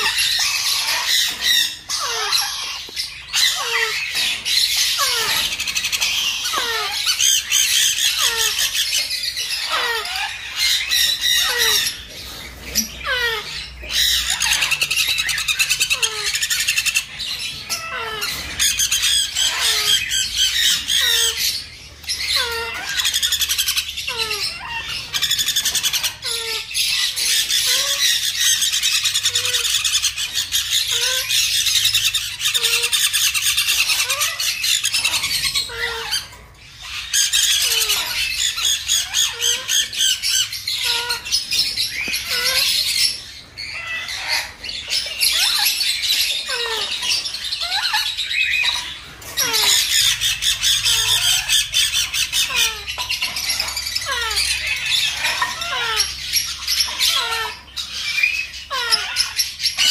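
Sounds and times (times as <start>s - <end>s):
baby parrots begging calls: 0.0s - 59.9s.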